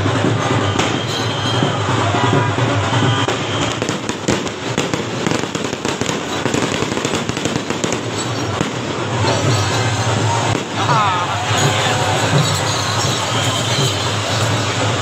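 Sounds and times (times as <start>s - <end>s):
firecrackers popping: 0.0s - 15.0s
street crowd noise: 0.0s - 15.0s.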